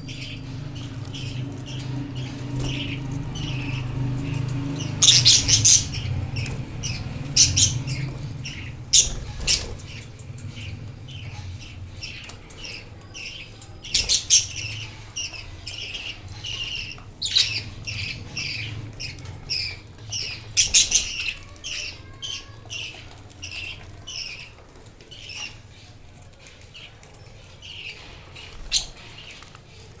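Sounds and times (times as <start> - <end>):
budgies chirping: 0.0 - 30.0.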